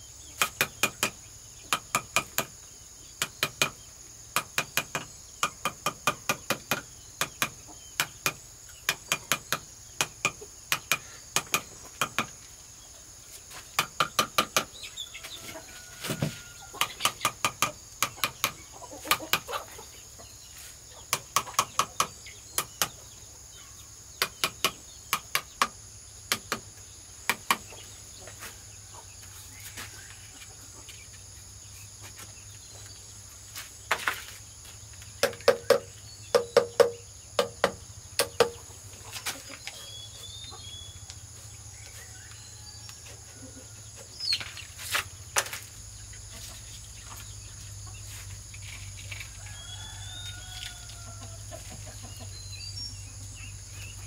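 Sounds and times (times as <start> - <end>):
crickets trilling: 0.0 - 54.0
chickens clucking: 5.0 - 25.6, 26.3 - 34.4, 35.3 - 42.2, 42.9 - 54.0.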